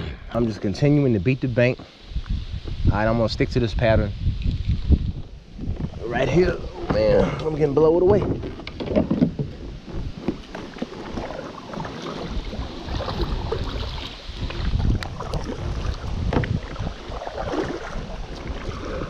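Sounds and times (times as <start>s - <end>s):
gusty wind on microphone: 0.0s - 19.0s.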